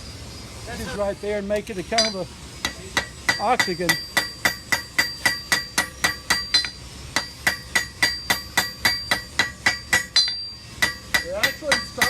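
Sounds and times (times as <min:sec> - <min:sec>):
hammer striking iron on anvil: 0:02.0 - 0:12.0.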